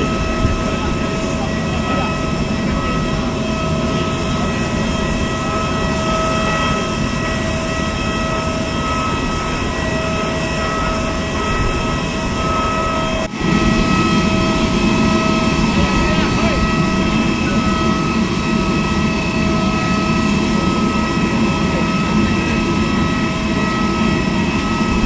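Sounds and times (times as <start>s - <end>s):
airliner turbine whine and rumble: 0.0s - 25.0s.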